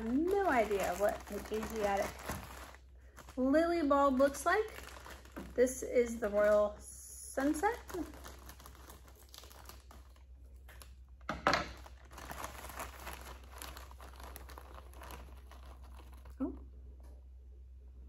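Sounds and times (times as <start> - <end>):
packaging crinkling: 0.0 - 16.6.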